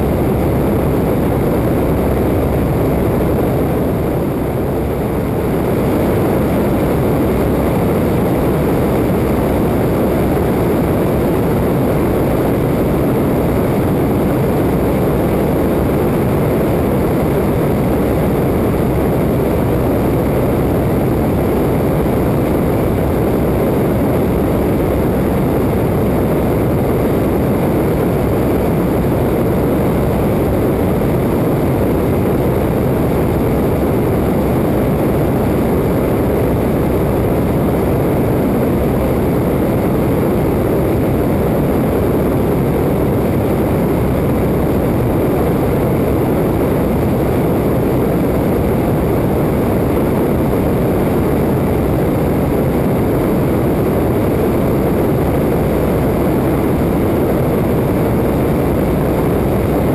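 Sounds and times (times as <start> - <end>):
biplane engine and propeller drone: 0.0 - 59.9
wind rushing over microphone: 0.0 - 59.9.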